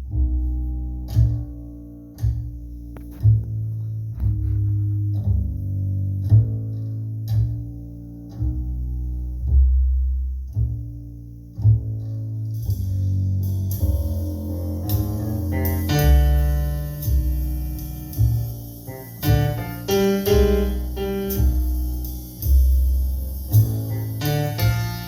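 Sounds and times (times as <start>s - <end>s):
plucked double bass: 0.0s - 25.0s
jazz recording over loudspeakers: 1.0s - 8.6s, 9.3s - 25.0s.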